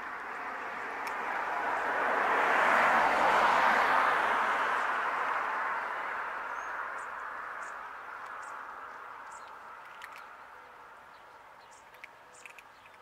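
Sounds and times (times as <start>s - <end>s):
passing vehicle road noise: 0.0s - 13.0s.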